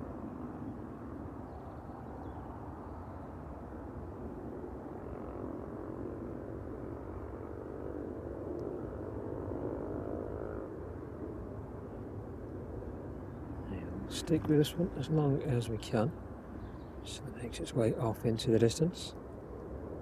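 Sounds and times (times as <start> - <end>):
distant jet engines roaring: 0.0 - 20.0.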